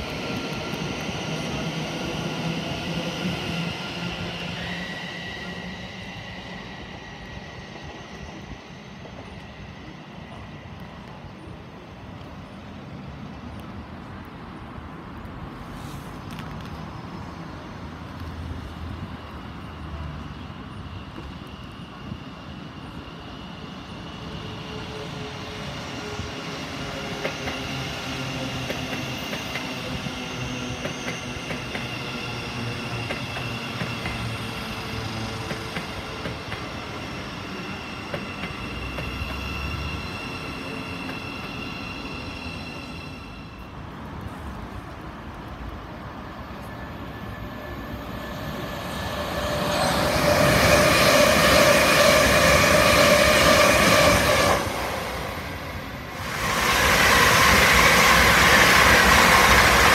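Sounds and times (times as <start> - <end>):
electric train whine: 0.0 - 59.9
train wheel and rail noise: 0.0 - 59.9.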